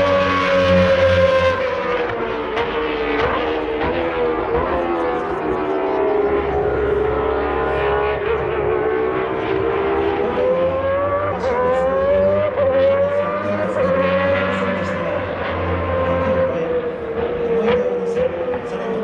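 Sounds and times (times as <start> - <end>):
racing car engine rising in pitch: 0.0 - 19.0.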